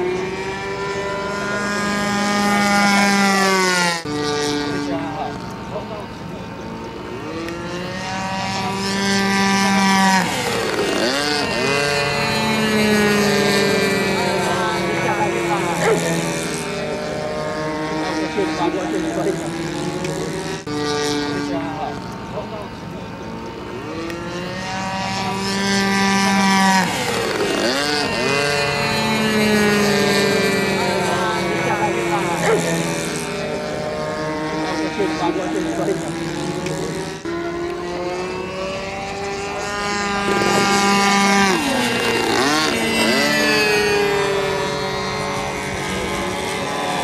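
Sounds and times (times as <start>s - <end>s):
model airplane motor whine: 0.0s - 47.0s.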